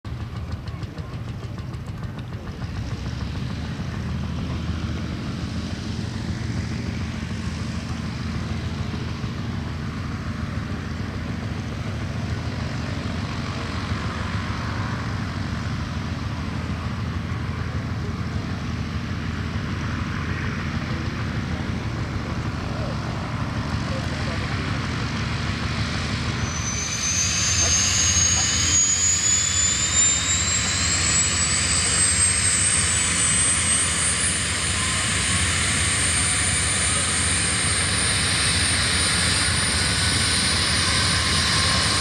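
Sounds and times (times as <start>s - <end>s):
helicopter running: 0.1s - 42.0s.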